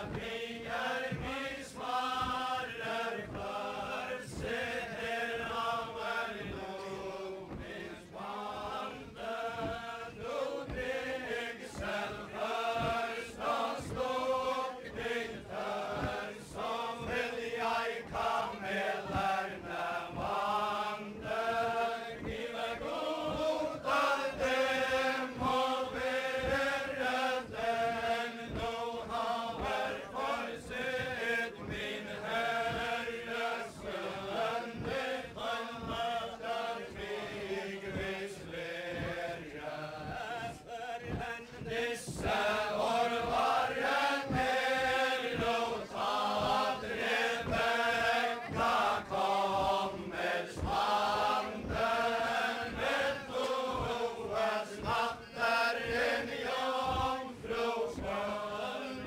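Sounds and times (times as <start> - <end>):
group of voices singing: 0.0 - 59.0
thumps of dancers' steps: 0.0 - 59.0.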